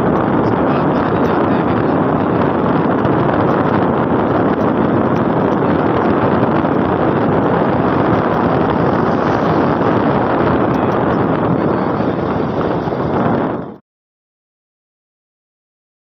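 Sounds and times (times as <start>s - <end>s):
motorcycle road noise: 0.0s - 13.8s
wind buffeting microphone: 0.0s - 13.8s.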